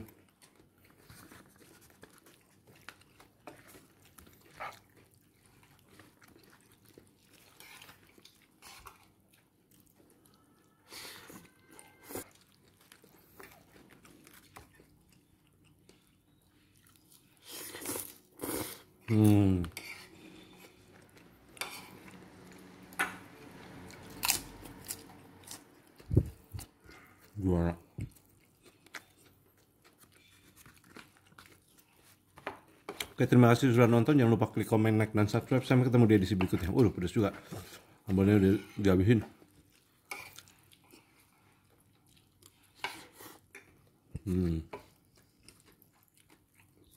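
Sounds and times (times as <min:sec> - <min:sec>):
person chewing food: 0:00.0 - 0:33.2, 0:38.7 - 0:46.9.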